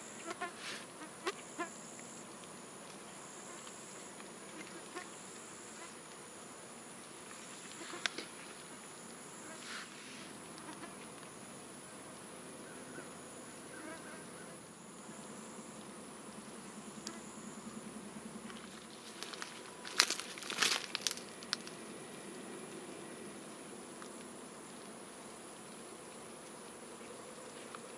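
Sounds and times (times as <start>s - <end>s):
insect buzzing close by: 0.0s - 2.3s, 3.1s - 27.9s.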